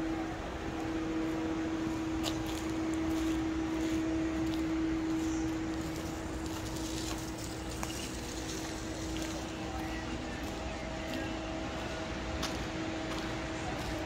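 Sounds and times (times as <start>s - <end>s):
constant low hum: 0.0s - 14.0s
faint distant voices: 0.0s - 14.0s.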